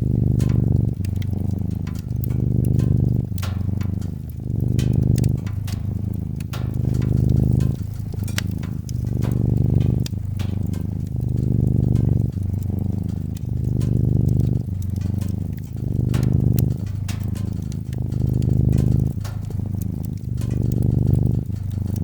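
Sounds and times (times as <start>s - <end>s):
cat purring: 0.0s - 22.0s
wood fire crackling: 0.0s - 22.0s.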